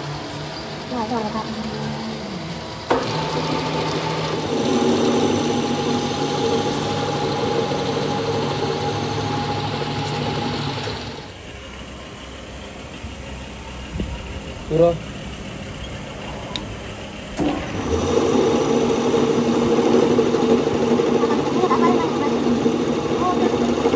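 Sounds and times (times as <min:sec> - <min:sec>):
motor humming whine: 0:00.0 - 0:23.9.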